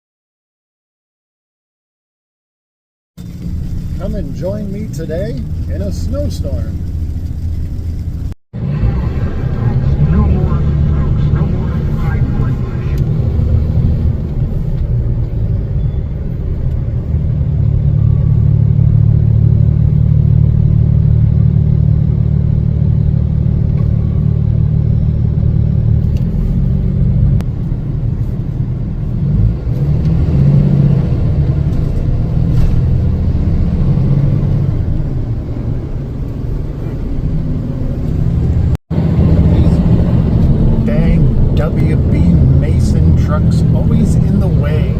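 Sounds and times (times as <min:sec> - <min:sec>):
truck engine droning from cab: 0:03.2 - 0:44.9.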